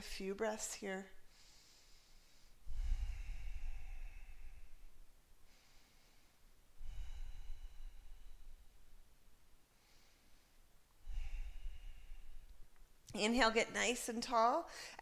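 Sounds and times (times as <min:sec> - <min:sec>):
woman breathing deeply: 0:01.2 - 0:13.0, 0:14.7 - 0:15.0.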